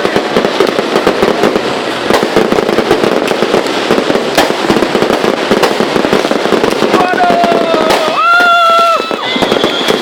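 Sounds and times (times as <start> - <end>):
fireworks crackling: 0.0 - 10.0
sharp fireworks bangs: 0.0 - 10.0.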